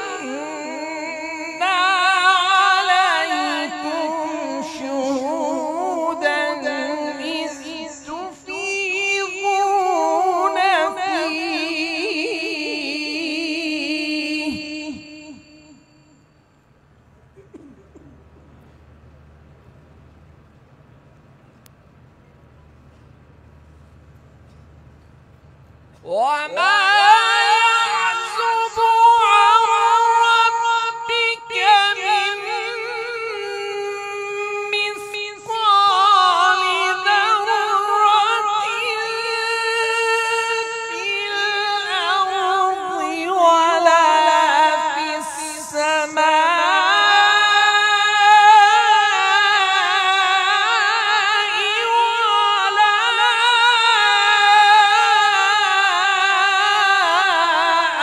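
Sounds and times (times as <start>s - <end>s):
man chanting a recitation: 0.0s - 15.4s, 26.1s - 58.0s.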